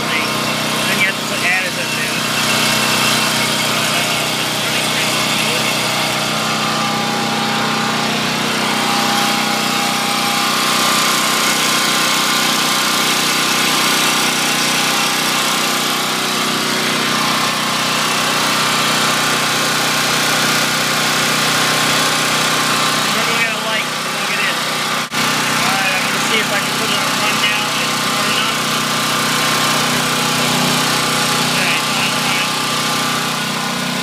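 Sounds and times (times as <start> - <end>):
portable generator engine running: 0.0 - 34.0.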